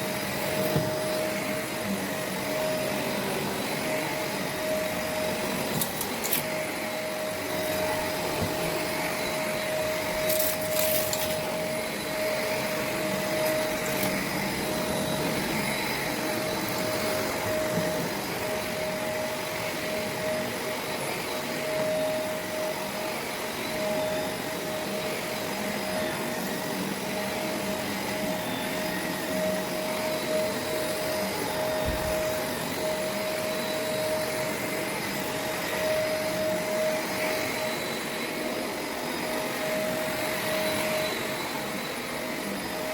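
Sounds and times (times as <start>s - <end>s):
upright vacuum running on carpet: 0.0s - 42.9s.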